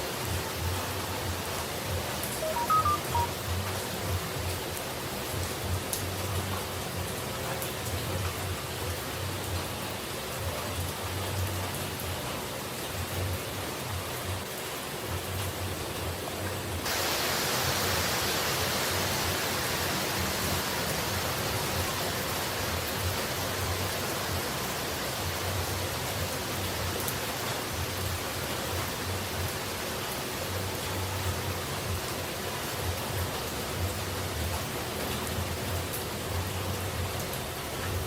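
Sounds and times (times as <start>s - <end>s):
rushing falling water: 0.0s - 38.0s.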